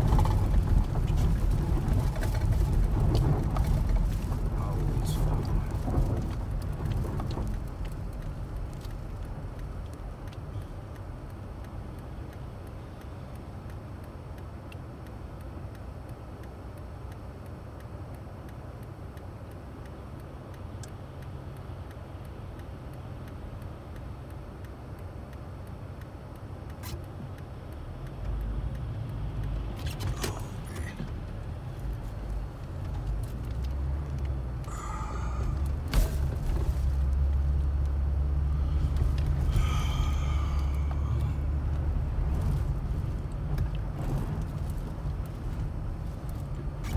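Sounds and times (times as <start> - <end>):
car engine and tyres rumbling: 0.0 - 46.9.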